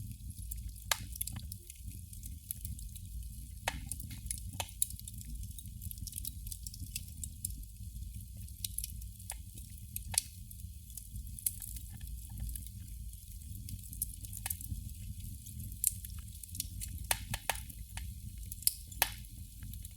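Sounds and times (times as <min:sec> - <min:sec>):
candle flame crackling: 0:00.0 - 0:19.9.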